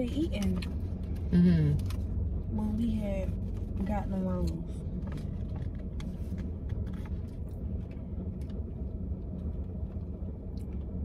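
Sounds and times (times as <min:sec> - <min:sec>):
car idling heard from inside: 0:00.0 - 0:11.0.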